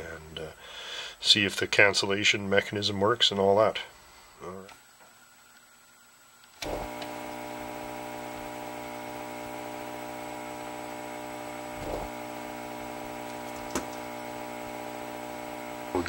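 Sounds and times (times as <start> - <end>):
fluorescent lamp buzzing: 0.0 - 16.0.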